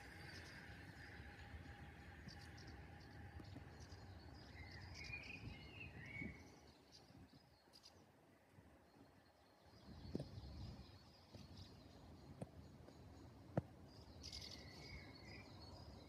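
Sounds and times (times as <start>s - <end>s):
birds chirping and warbling: 0.0s - 16.0s.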